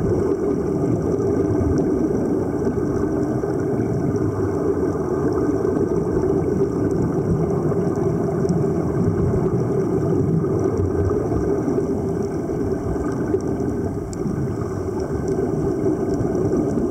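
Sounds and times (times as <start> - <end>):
muffled underwater rumble: 0.0 - 16.9.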